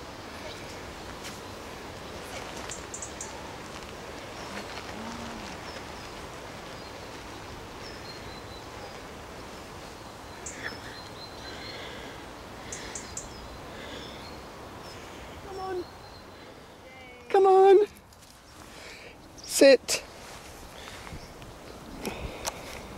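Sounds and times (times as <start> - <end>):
outdoor background noise: 0.0 - 22.9.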